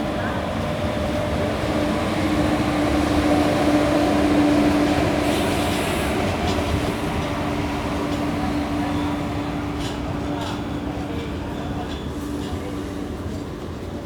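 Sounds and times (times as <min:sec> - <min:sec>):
train wheels on track: 0:00.0 - 0:14.0.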